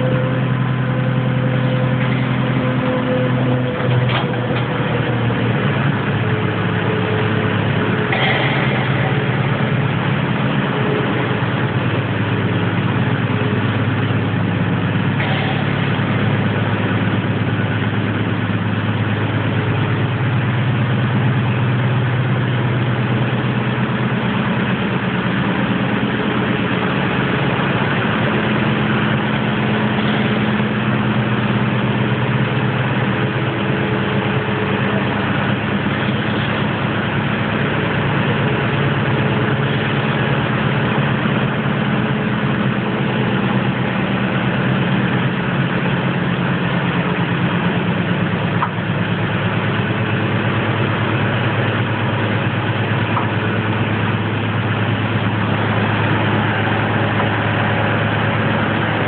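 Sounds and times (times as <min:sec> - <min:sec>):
lift power unit droning: 0:00.0 - 0:59.0.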